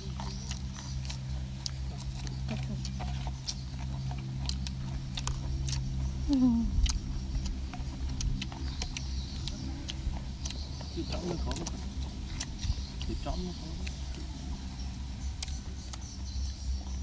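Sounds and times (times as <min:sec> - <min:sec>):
crunchy vegetables chewed: 0:00.0 - 0:17.0
low hum: 0:00.0 - 0:17.0.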